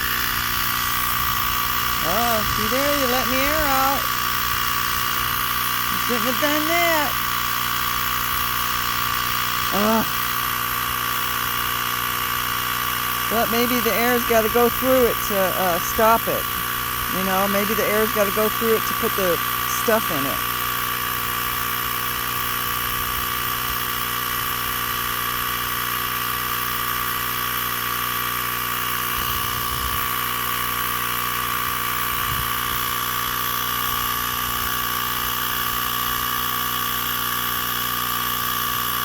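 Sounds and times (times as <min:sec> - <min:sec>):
air compressor humming: 0:00.0 - 0:39.0.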